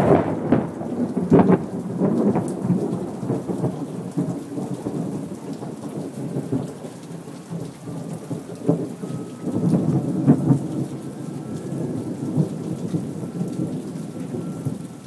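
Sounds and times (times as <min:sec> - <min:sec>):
rain pattering: 0:00.0 - 0:15.0
thunder rumbling: 0:00.0 - 0:15.0.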